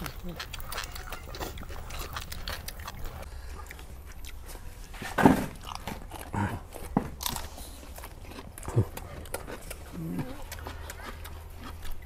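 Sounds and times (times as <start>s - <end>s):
people biting and chewing: 0.0s - 12.0s.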